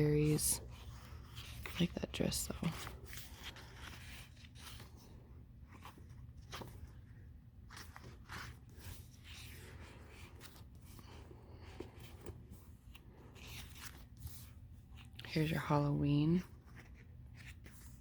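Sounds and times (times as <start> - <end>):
paper rustling: 0.0 - 18.0.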